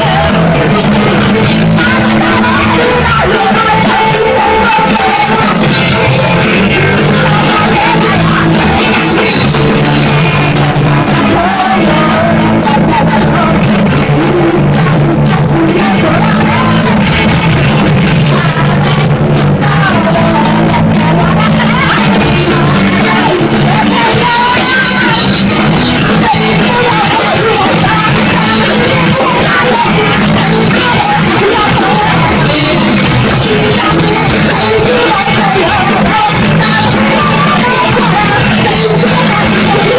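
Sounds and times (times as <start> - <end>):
loud rock band playing: 0.0 - 39.9
person singing and yelling: 0.0 - 39.9.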